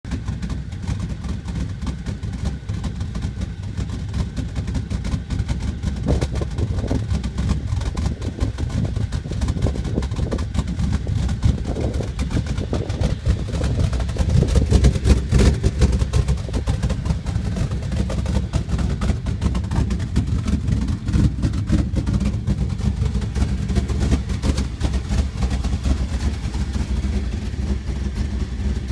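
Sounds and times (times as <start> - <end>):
truck engine idling roughly: 0.0 - 28.9.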